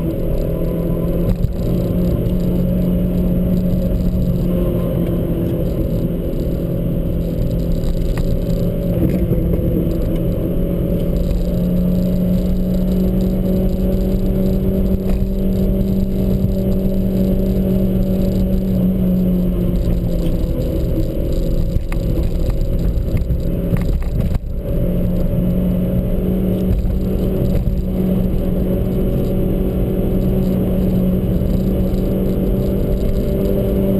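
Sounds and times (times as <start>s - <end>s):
car engine running: 0.0s - 33.9s
tyre and road rumble: 0.0s - 33.9s.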